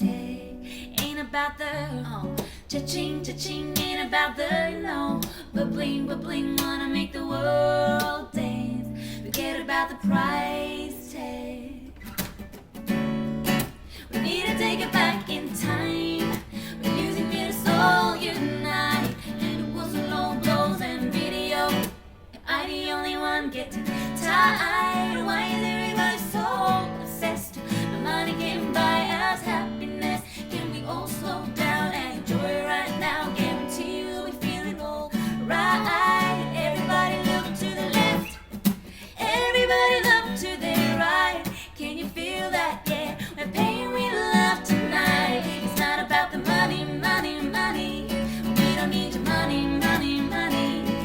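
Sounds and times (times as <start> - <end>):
strummed acoustic guitar: 0.0 - 11.3, 11.9 - 22.1, 23.7 - 51.0
woman singing: 0.0 - 12.1, 14.0 - 38.4, 39.0 - 51.0.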